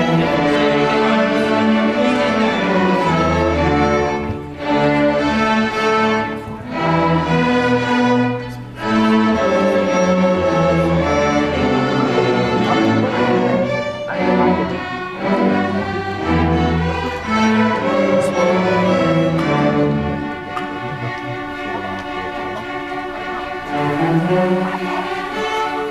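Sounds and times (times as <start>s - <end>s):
violins and cellos playing: 0.0s - 25.9s.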